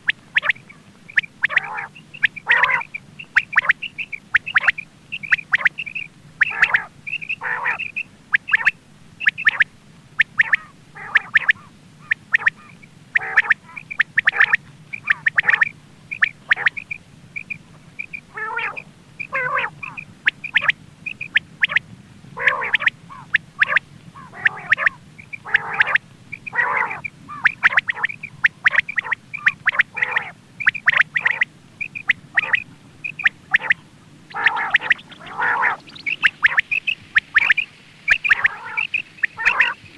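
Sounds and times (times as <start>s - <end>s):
faint steady hum: 0.0s - 39.9s
quail calling: 0.0s - 39.9s.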